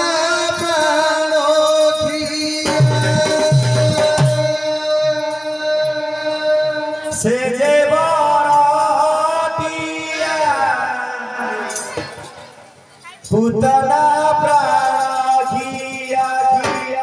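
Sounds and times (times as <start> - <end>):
voices singing devotional music: 0.0 - 17.0.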